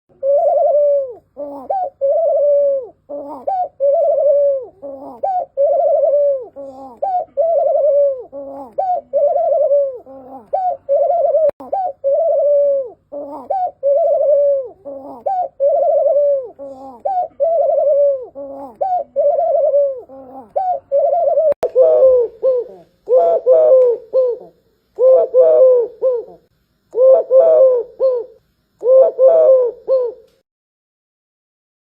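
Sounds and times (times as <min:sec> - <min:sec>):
doves cooing: 0:00.1 - 0:30.3
broken dove coo: 0:00.1 - 0:30.4.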